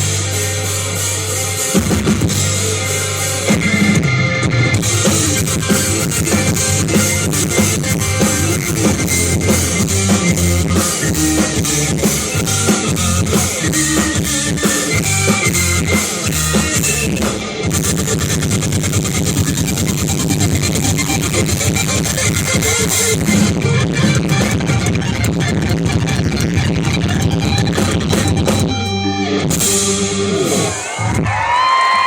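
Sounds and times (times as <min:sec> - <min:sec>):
drum kit beat: 0:00.0 - 0:31.8
live rock band playing: 0:00.0 - 0:32.0.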